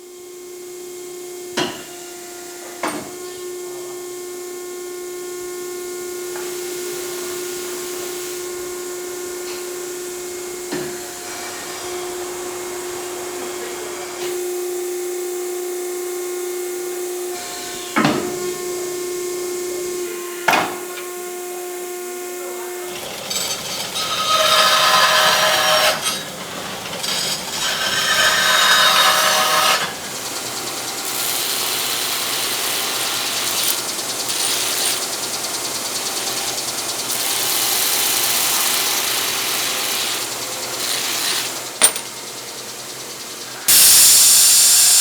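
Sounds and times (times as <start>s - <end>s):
machine humming and hissing: 0.0s - 45.0s.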